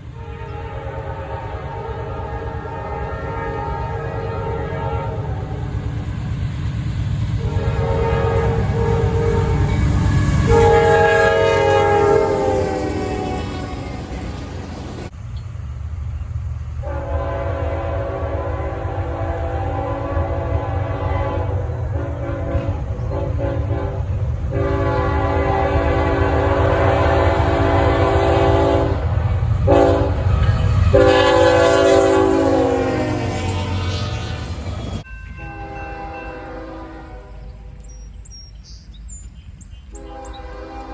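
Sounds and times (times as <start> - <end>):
train air horn blasts: 0.0 - 5.9, 7.4 - 14.7, 16.8 - 37.8, 39.9 - 40.9
train rumble: 0.0 - 40.9.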